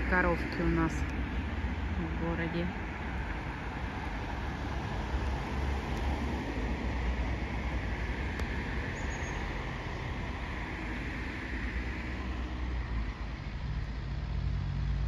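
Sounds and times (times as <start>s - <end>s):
traffic rumble and hiss: 0.0s - 15.0s
vehicle engine hum rising: 0.0s - 15.0s.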